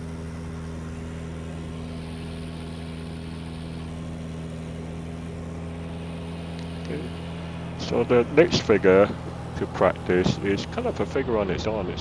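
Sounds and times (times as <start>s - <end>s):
plane engine droning: 0.0s - 12.0s.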